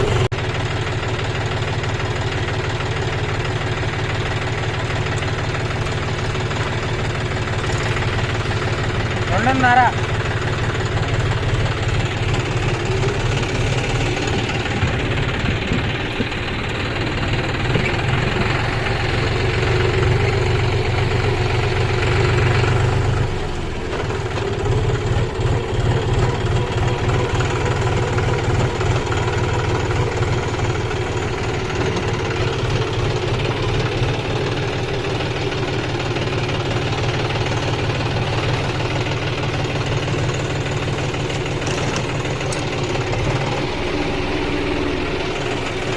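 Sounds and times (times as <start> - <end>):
combine harvester diesel engine: 0.0 - 45.9.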